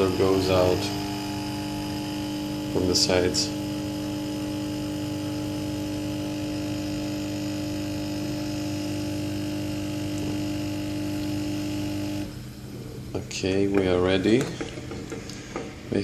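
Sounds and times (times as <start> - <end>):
coffee machine pump humming: 0.0 - 16.0.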